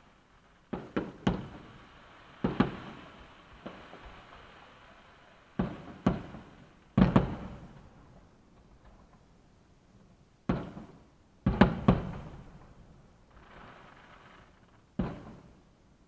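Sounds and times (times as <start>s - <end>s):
muffled fireworks bangs: 0.0s - 9.3s, 10.4s - 15.7s.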